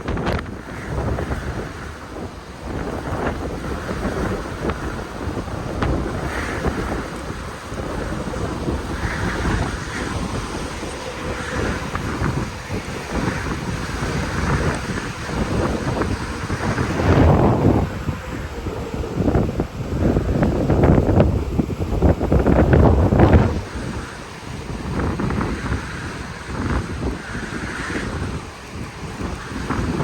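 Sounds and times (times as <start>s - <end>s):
gusty wind buffeting microphone: 0.0s - 30.0s.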